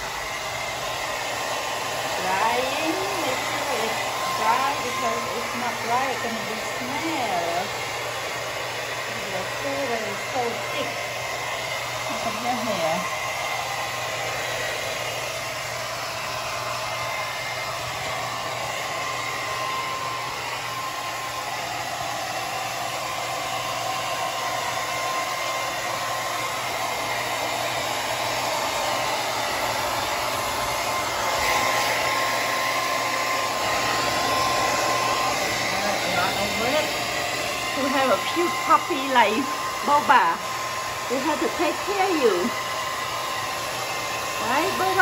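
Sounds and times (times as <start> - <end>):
blow dryer running: 0.0 - 45.0.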